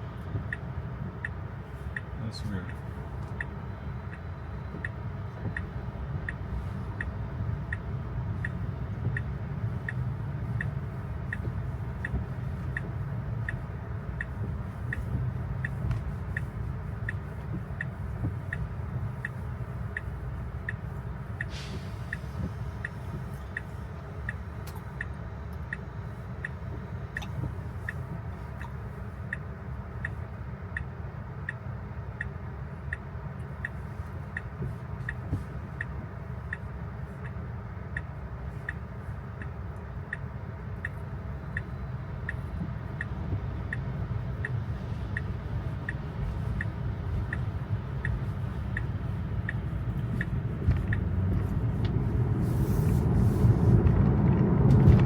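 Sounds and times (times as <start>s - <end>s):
road noise rumble: 0.0s - 55.0s
turn signal ticking: 0.0s - 55.0s.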